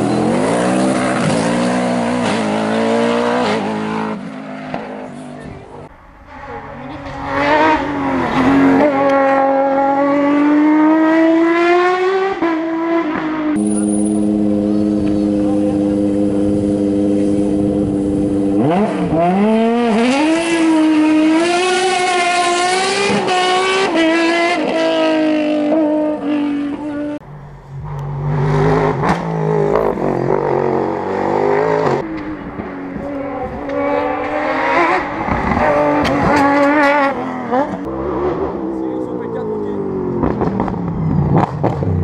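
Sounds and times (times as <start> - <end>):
race car engine revving: 0.0 - 42.0.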